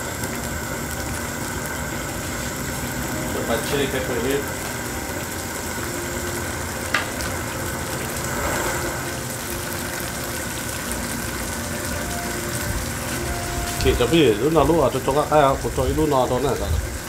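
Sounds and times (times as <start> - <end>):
food sizzling in pan: 0.0 - 17.0
low burner rumble: 0.0 - 17.0.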